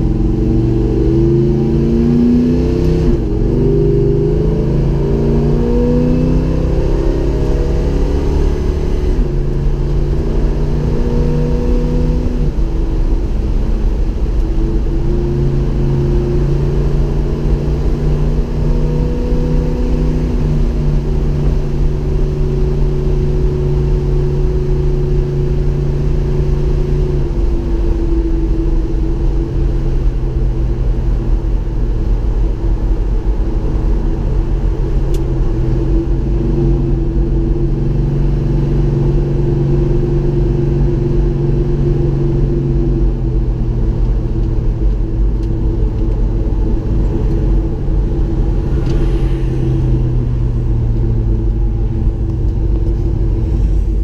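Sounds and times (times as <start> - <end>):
car engine exhaust note: 0.0 - 54.0
road noise: 0.0 - 54.0.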